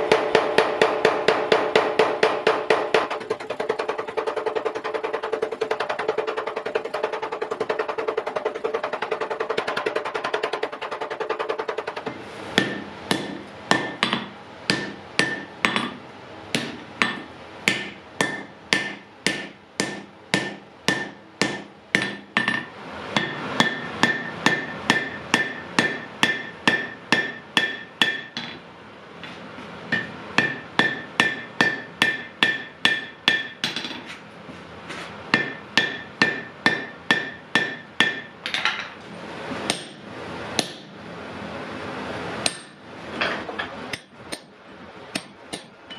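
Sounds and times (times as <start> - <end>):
hammer striking metal on anvil: 0.0 - 28.6, 29.9 - 34.1, 35.3 - 38.9, 39.7 - 40.0, 40.6 - 40.9, 42.4 - 44.5, 45.1 - 45.9.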